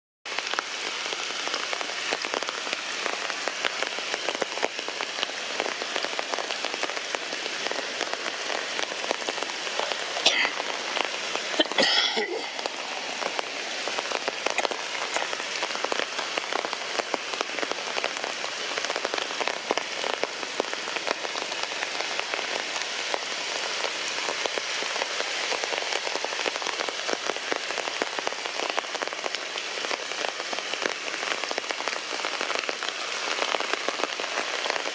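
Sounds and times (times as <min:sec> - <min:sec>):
heavy rain falling: 0:00.3 - 0:34.9.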